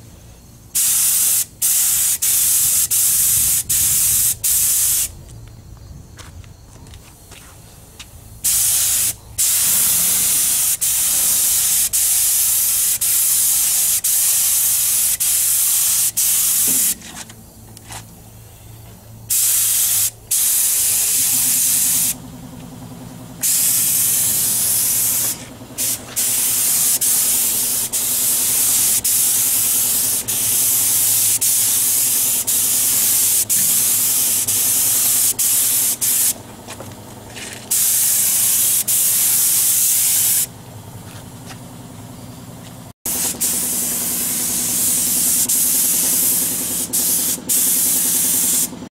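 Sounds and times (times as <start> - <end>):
paint spray gun hissing: 0.3 - 5.1, 8.3 - 18.0, 19.3 - 22.2, 23.4 - 36.4, 37.4 - 40.5, 43.1 - 48.9.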